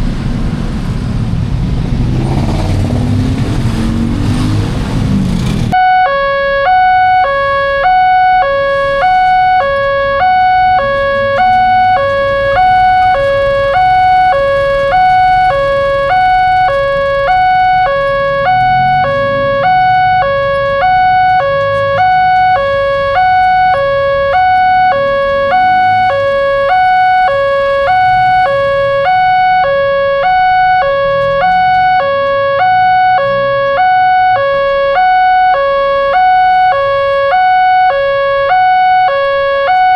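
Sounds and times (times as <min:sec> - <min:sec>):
railroad crossing two-tone alarm: 0:05.7 - 0:39.9.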